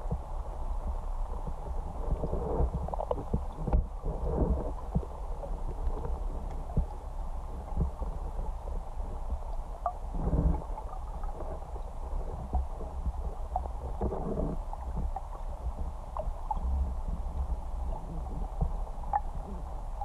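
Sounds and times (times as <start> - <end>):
low underwater rumble: 0.0 - 20.0
underwater clicks and gurgles: 0.0 - 20.0.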